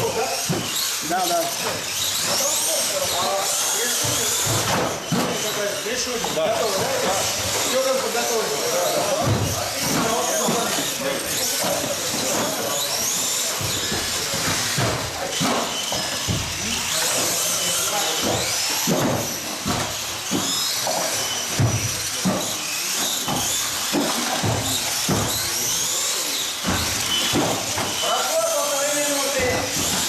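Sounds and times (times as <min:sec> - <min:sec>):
rc car motors whining: 0:00.0 - 0:30.0.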